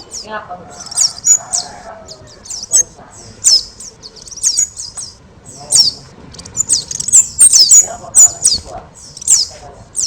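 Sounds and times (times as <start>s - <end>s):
songbird chirping and twittering: 0.0s - 10.0s.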